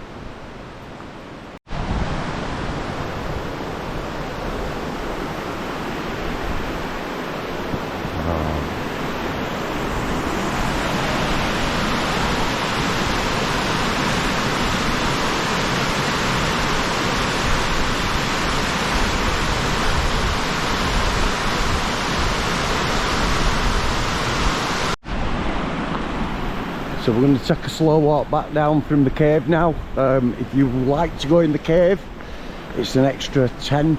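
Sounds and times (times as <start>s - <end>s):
stream water rushing: 0.0s - 29.1s.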